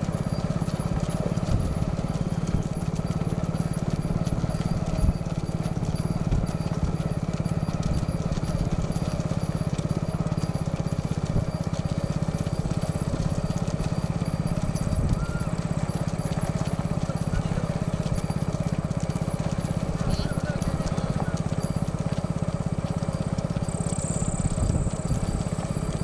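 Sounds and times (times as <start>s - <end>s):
engine knocks: 0.0s - 26.0s
motorcycle engines chugging: 0.0s - 26.0s.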